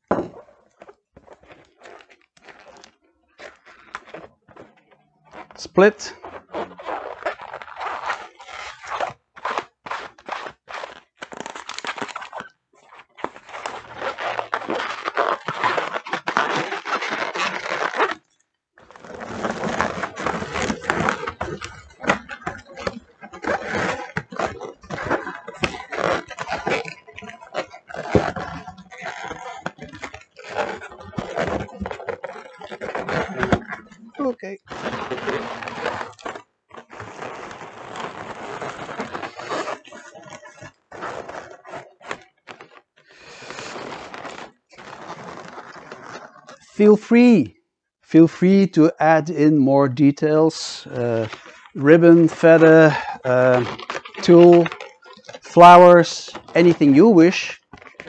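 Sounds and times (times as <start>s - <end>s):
foil balloons crinkling: 0.0s - 47.3s, 48.0s - 58.0s
latex balloons rubbing and squeaking: 0.0s - 58.0s.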